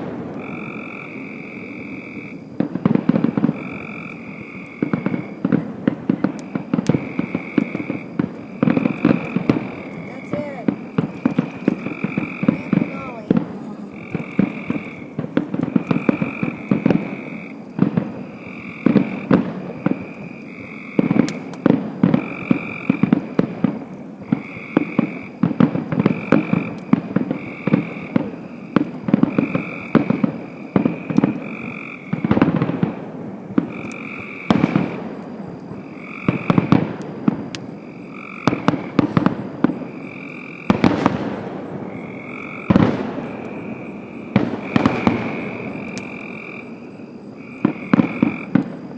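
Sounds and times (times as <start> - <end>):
distant firework bangs: 0.0 - 48.9
bullfrog croaking: 0.3 - 2.5, 3.1 - 23.4, 24.2 - 33.0, 33.6 - 35.2, 35.8 - 41.0, 41.7 - 48.7.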